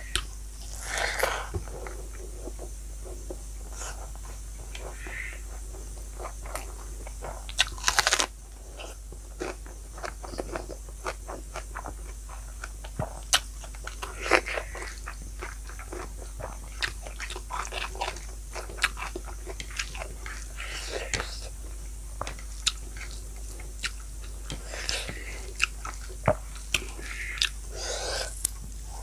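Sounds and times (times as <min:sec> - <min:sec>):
person chewing crunchy food: 0:00.1 - 0:29.0.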